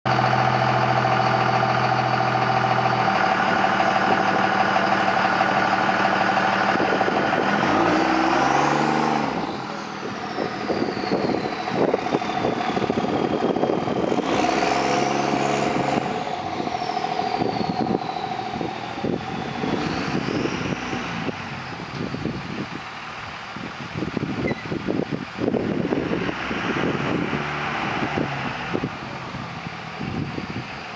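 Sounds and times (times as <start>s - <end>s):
diesel pickup engine revving: 0.1s - 30.9s.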